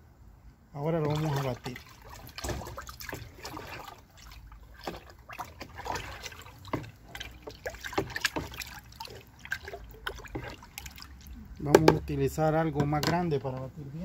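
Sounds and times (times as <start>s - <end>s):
spoon stirring liquid in bucket: 0.9s - 13.4s.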